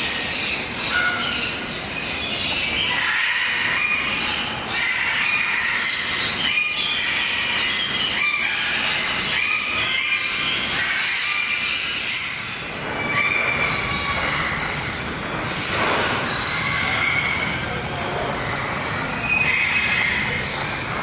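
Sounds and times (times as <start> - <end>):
many birds chirping: 0.0 - 21.0.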